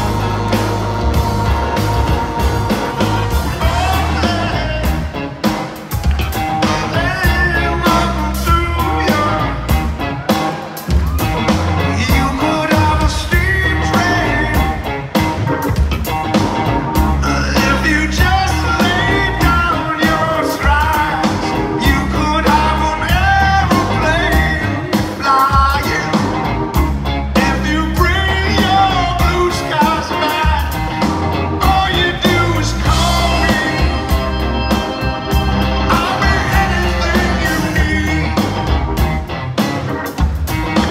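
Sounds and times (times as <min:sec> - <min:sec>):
man singing: 0:00.0 - 0:05.6, 0:06.6 - 0:10.2, 0:11.8 - 0:15.0, 0:17.1 - 0:26.6, 0:27.3 - 0:38.9
heavy electric bass line: 0:00.0 - 0:10.3, 0:10.9 - 0:40.9
rock band playing live: 0:00.0 - 0:40.9.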